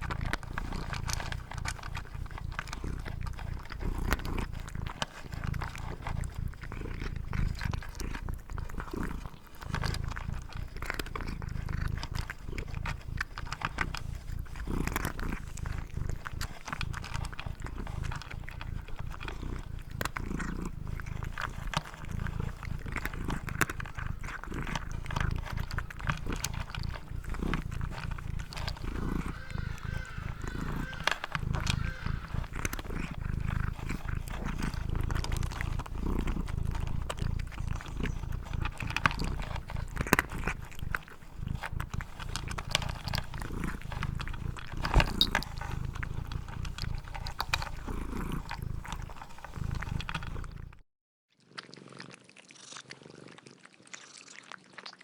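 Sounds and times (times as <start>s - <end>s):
animal chewing and crunching: 0.0s - 50.8s, 51.4s - 55.0s.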